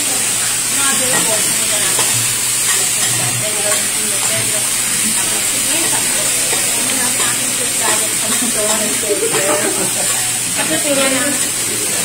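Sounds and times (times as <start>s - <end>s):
beef sizzling on griddle: 0.0s - 12.0s
spatula scraping hot plate: 0.9s - 11.7s.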